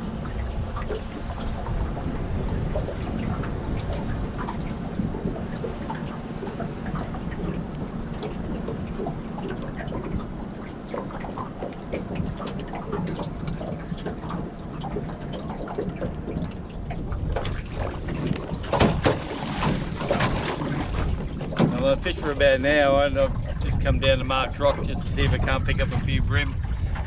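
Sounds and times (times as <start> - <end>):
water lapping and splashing: 0.0 - 27.0
wind on microphone: 0.0 - 27.0.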